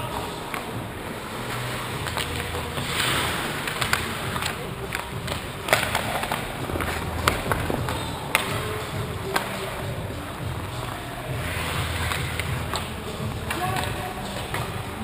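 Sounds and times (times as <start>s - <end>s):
hockey sticks and puck clacking: 0.0s - 15.0s
skates scraping on ice: 0.3s - 15.0s.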